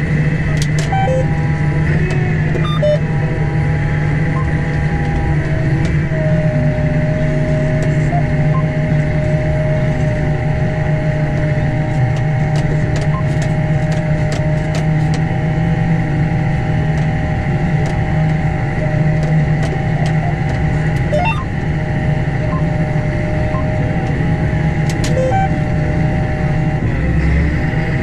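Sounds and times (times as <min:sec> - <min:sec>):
steady hum: 0:00.0 - 0:28.0
tractor engine drone: 0:00.0 - 0:28.0.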